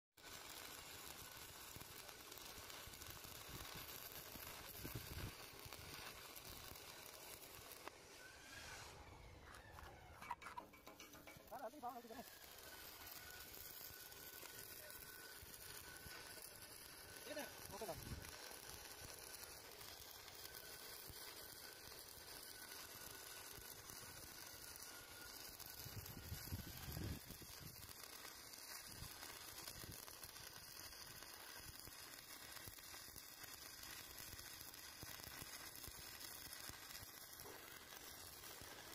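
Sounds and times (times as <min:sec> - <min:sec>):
welding arc crackling: 0:00.2 - 0:38.9.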